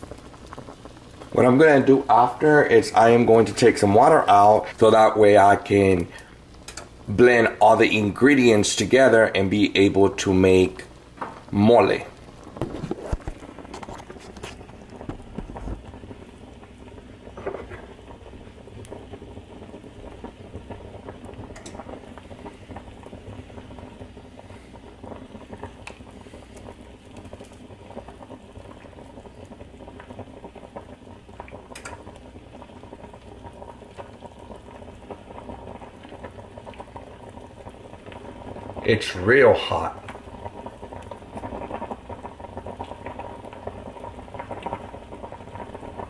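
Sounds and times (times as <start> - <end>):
water boiling and bubbling: 0.0 - 46.0.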